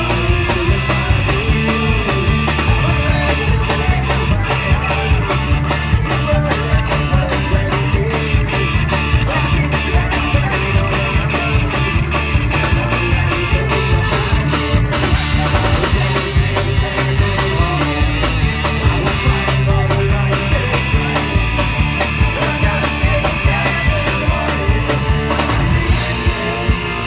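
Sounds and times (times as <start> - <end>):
driving drum beat: 0.0 - 27.0
live folk-punk band playing: 0.0 - 27.0.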